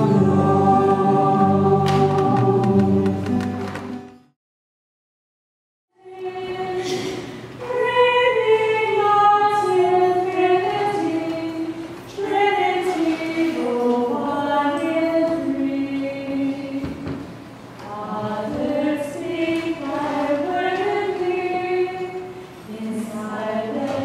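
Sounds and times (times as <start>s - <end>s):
women singing a hymn in unison: 0.0s - 3.3s, 6.0s - 17.2s, 17.8s - 24.0s.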